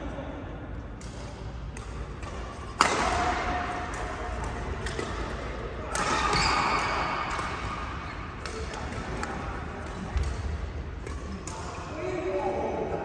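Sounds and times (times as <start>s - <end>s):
badminton court noise: 0.7s - 12.9s
racket hitting shuttlecock: 1.0s - 11.9s.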